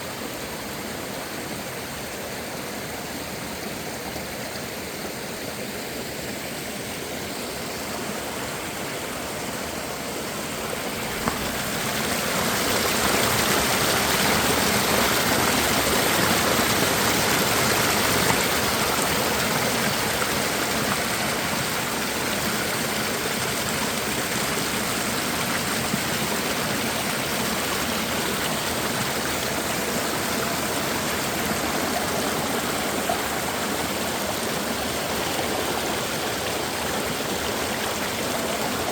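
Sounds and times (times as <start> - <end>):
mountain stream rushing water: 0.0 - 38.9.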